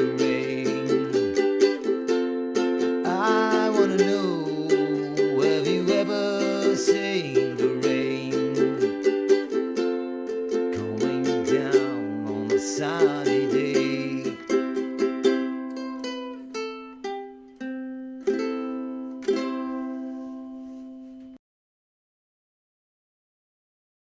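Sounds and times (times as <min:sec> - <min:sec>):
ukulele strummed chords: 0:00.0 - 0:21.4.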